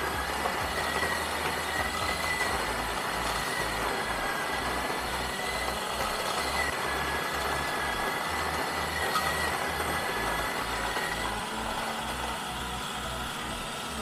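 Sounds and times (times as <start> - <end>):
electric coffee grinder running: 0.0 - 14.0.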